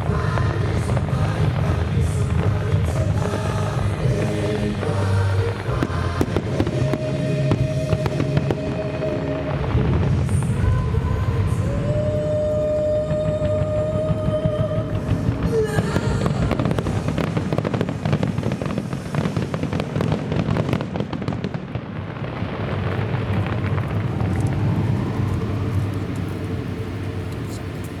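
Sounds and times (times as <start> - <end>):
fireworks bursting and crackling: 0.0 - 28.0.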